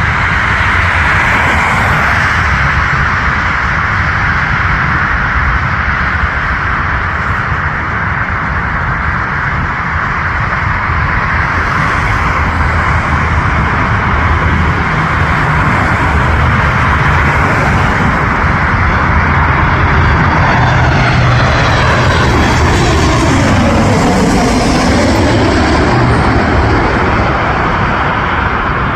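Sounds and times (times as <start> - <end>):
jet airliner engines rumbling: 0.0 - 28.9.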